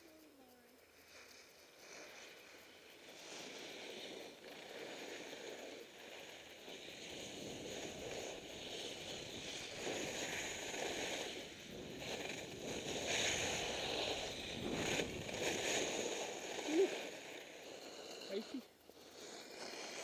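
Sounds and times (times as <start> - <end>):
skis scraping on snow: 1.0 - 20.0.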